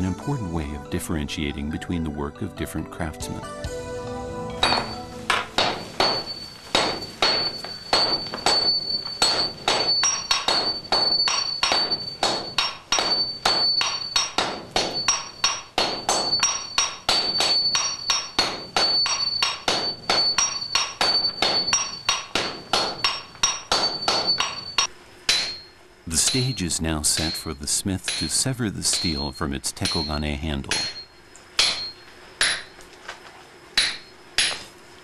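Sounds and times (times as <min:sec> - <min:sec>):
sledgehammers ringing on anvil: 0:04.6 - 0:32.8, 0:33.8 - 0:34.7.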